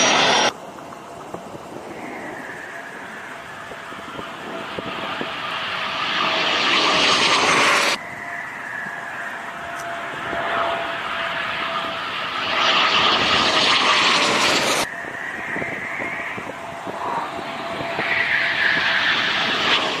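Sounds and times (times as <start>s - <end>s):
loud rushing jet noise: 0.0s - 0.6s, 1.7s - 20.0s
jet engine high whine: 0.0s - 20.0s.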